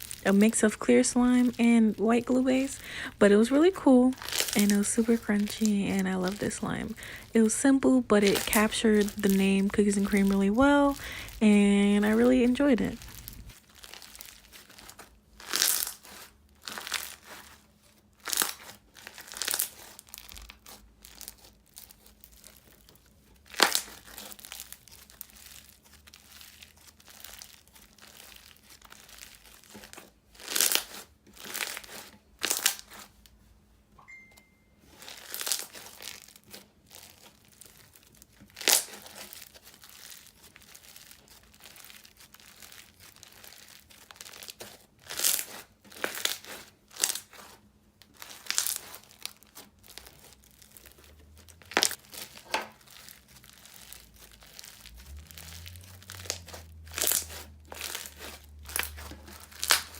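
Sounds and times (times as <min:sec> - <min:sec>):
slime crackling and popping: 0:00.0 - 0:33.5, 0:34.4 - 0:59.9
slime squishing: 0:00.0 - 0:33.7, 0:34.9 - 0:59.9.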